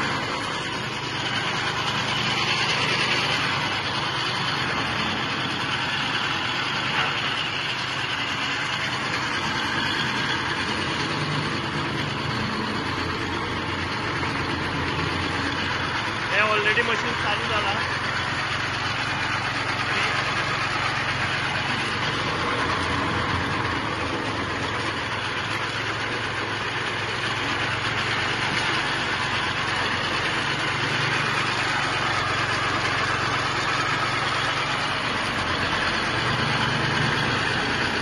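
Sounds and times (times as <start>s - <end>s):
machine engine running: 0.0s - 38.0s.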